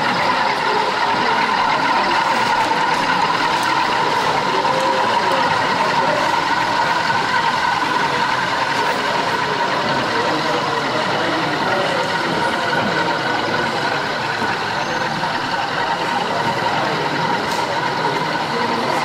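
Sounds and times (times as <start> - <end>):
model locomotive engine sound: 0.0 - 19.0.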